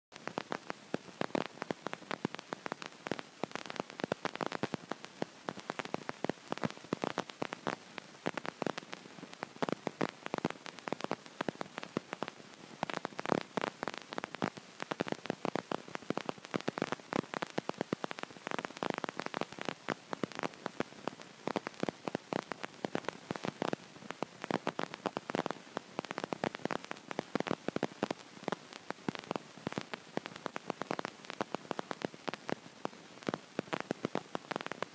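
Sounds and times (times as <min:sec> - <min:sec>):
dense static-like crackling: 0:00.1 - 0:34.9.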